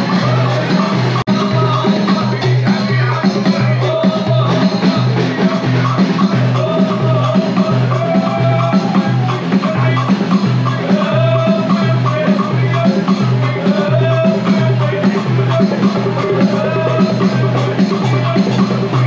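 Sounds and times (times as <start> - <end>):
hand drums beating: 0.0 - 19.0
men chanting: 0.0 - 19.0.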